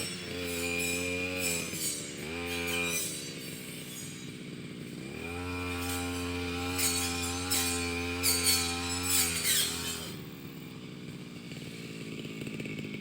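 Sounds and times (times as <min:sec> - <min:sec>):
brush cutter engine revving: 0:00.0 - 0:13.0.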